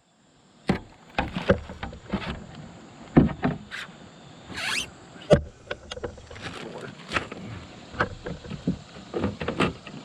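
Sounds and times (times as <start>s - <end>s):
knocks and clunks of gear: 0.7s - 3.7s, 4.6s - 10.0s.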